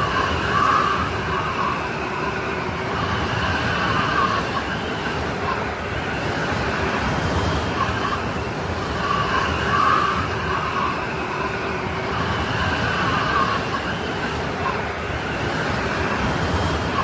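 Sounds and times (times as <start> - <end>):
strong wind rushing: 0.0 - 17.0
whistling wind howl: 0.0 - 17.0.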